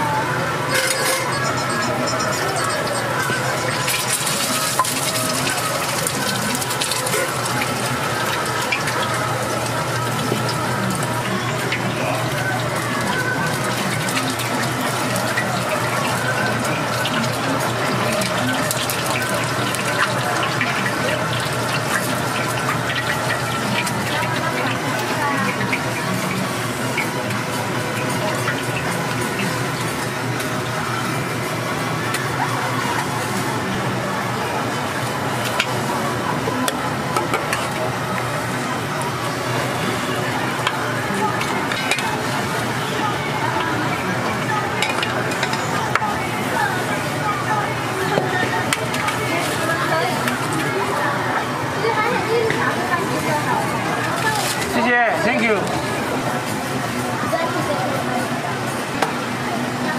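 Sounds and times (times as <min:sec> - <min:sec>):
dough sizzling in hot oil: 0:02.5 - 0:59.9.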